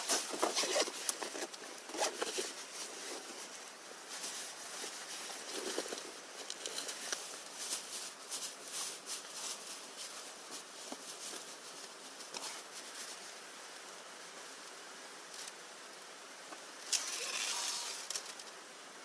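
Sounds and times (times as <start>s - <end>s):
rustling and crackling: 0.0s - 18.9s
faint steady hiss: 0.0s - 19.0s.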